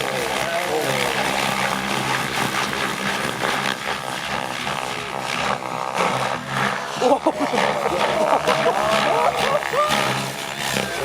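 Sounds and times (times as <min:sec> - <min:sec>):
model helicopter rotor drone: 0:00.0 - 0:11.0.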